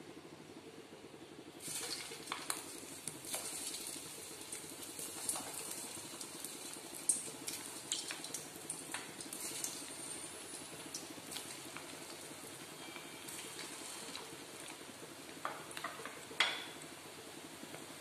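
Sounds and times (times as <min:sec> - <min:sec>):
food deep-frying in hot oil: 0:01.4 - 0:18.0.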